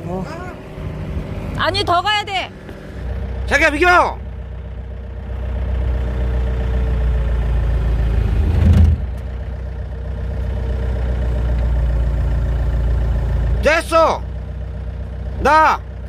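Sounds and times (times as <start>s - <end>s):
excavator diesel engine running: 0.0s - 16.0s
hydraulics working under load: 0.0s - 16.0s.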